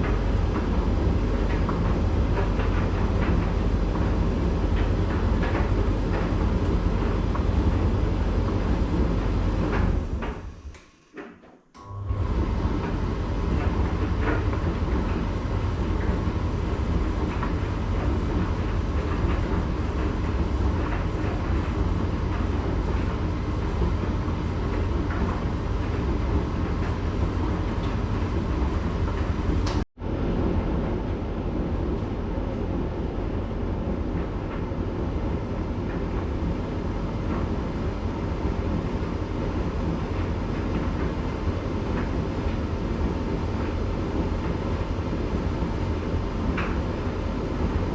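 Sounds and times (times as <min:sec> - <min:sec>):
tumble dryer drum rumbling: 0:00.0 - 0:47.9.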